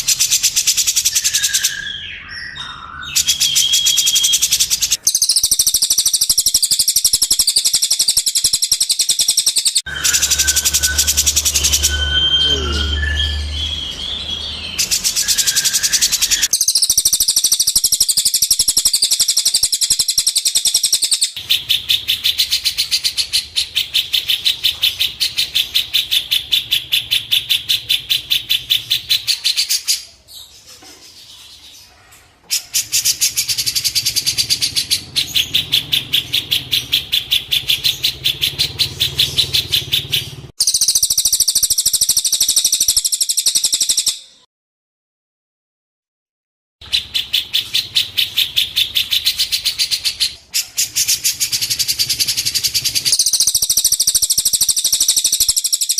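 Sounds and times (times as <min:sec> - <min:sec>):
songbird chirping fast high notes: 0:00.0 - 0:30.1, 0:32.7 - 0:44.5, 0:46.8 - 0:55.9.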